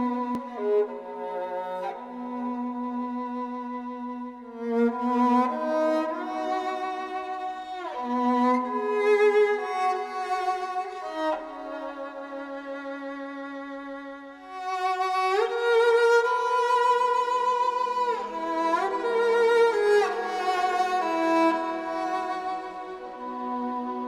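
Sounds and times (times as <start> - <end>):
solo violin melody: 0.0 - 24.0.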